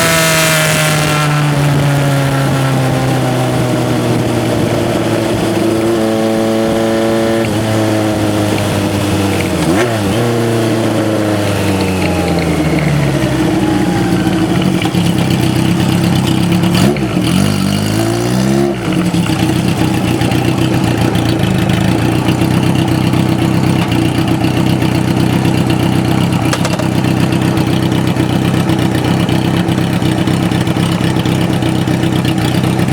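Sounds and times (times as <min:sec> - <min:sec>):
motorcycle engine revving and idling: 0:00.0 - 0:32.9.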